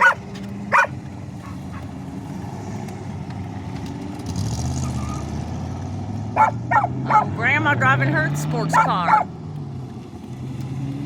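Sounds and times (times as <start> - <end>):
deep engine: 0.0 - 11.0
old car engines humming: 0.0 - 11.0.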